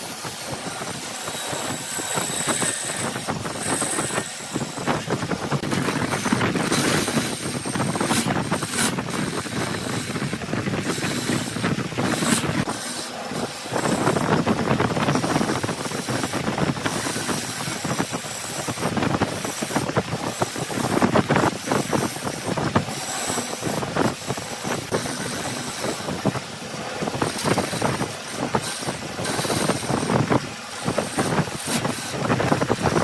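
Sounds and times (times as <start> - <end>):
wood lathe cutting wood: 0.0 - 33.0.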